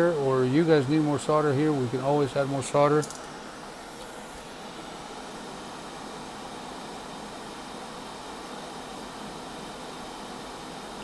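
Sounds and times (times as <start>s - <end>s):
blower fan hiss: 0.0s - 11.0s.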